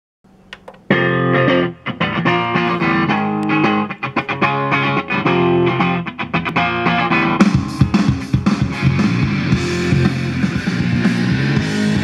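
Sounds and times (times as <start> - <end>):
guitar music over loudspeakers: 0.7 - 12.0.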